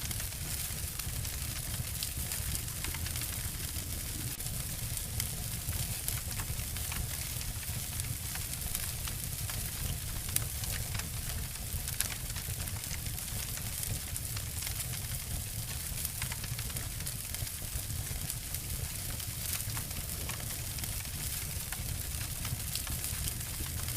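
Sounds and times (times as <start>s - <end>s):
low fire rumble and hiss: 0.0s - 23.9s
wood fire crackling: 0.0s - 23.9s.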